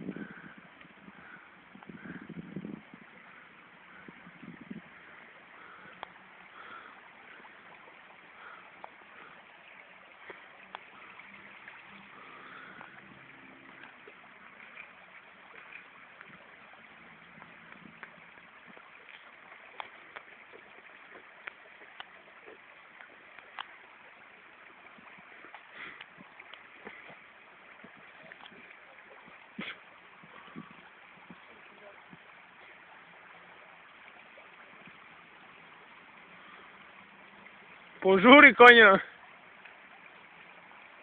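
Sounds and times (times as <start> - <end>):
flowing river water: 0.0 - 41.0.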